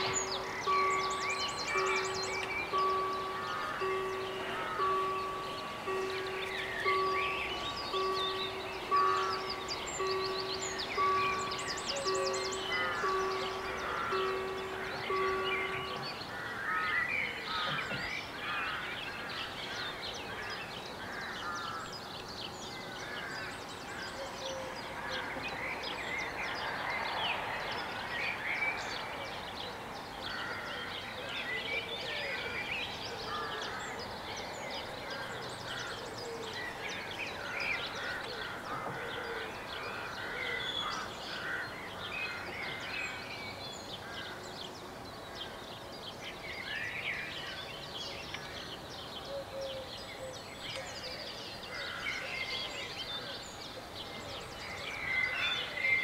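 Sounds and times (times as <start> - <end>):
low town noise: 0.0 - 56.0
songbirds chirping and singing: 0.0 - 56.0.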